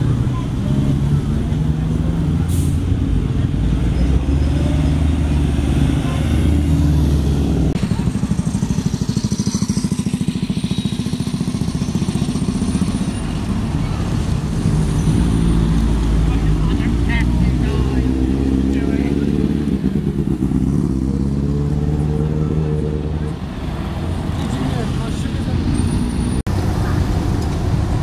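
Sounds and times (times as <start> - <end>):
bus engine passing: 0.0 - 28.0.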